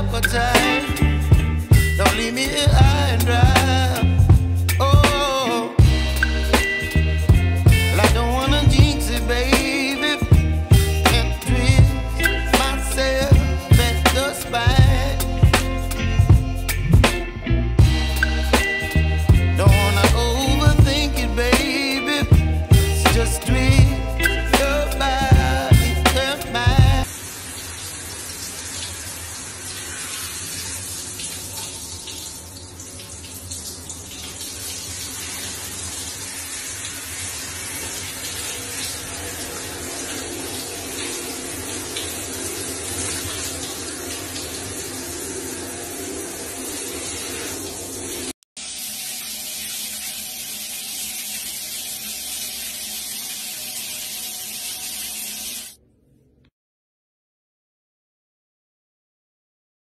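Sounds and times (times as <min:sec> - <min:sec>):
shower water running: 0:00.0 - 0:17.2, 0:17.8 - 0:55.8.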